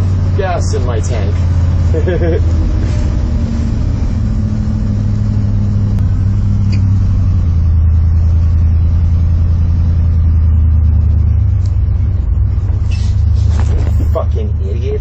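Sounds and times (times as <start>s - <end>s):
road noise inside cab: 0.0s - 15.0s
truck engine droning while driving: 0.0s - 15.0s.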